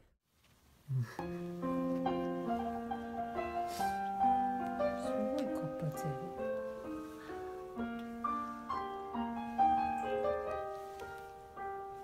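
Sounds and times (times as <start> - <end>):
gentle piano music: 1.2 - 12.0.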